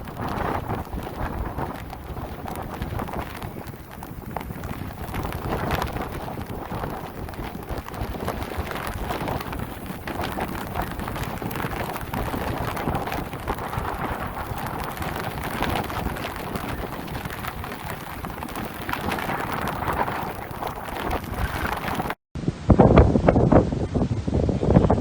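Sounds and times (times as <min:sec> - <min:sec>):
dense patter of raindrops: 0:00.0 - 0:22.2
wind gusts buffeting microphone: 0:00.0 - 0:25.0.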